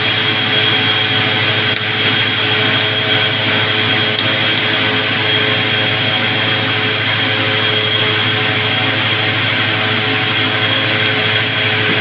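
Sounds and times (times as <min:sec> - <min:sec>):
machine whirring: 0:00.0 - 0:12.0.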